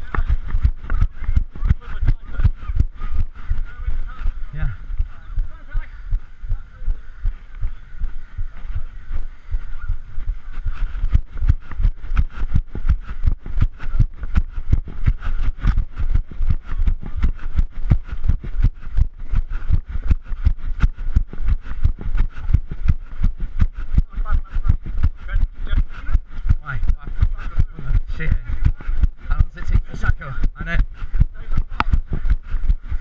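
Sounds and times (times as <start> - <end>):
running footsteps: 0.0 - 33.0.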